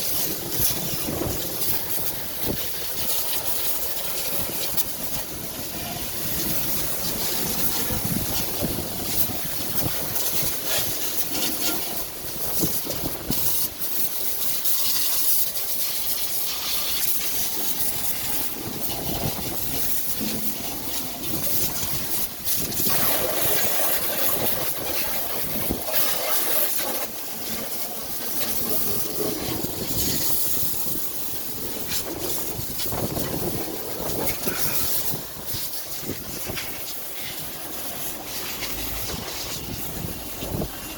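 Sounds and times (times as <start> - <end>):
high-pressure water jet spraying: 0.0 - 40.9.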